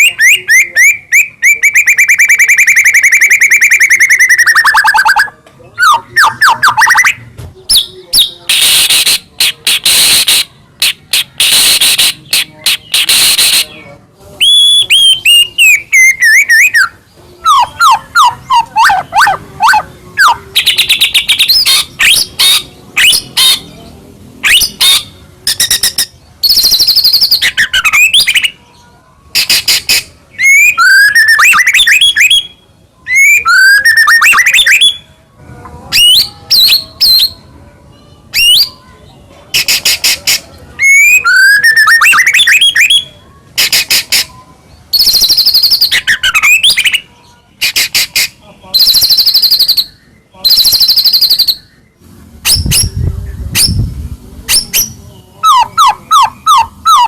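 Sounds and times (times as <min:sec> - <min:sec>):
songbird singing: 0:00.0 - 0:35.3, 0:35.9 - 0:57.0.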